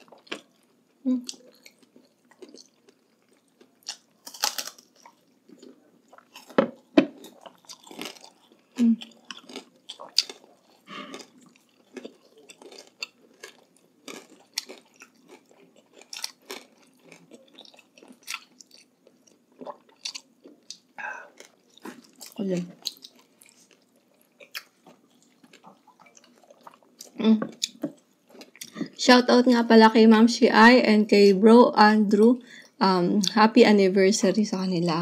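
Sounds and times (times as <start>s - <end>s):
crunchy chewing: 0.0s - 28.8s.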